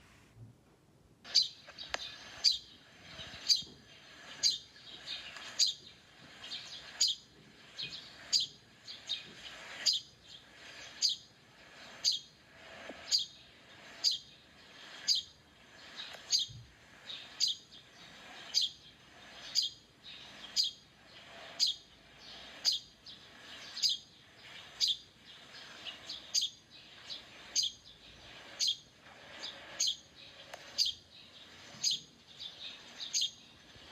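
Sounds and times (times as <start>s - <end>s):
bird chirping: 1.2s - 33.9s.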